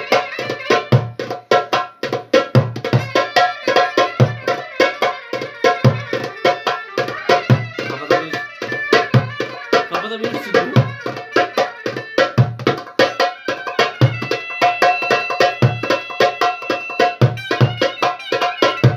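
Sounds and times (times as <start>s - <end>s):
goblet drum rhythm: 0.0s - 18.9s
held melody instrument: 0.0s - 18.9s.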